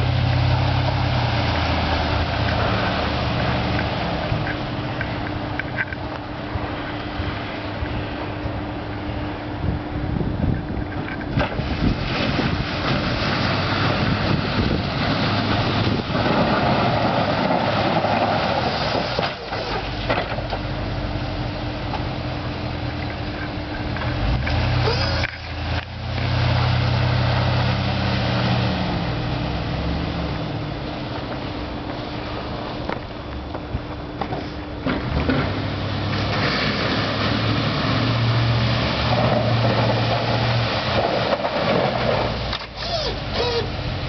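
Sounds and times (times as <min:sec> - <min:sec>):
snow plow blade rushing: 0:00.0 - 0:05.3, 0:10.9 - 0:33.2, 0:34.4 - 0:44.0.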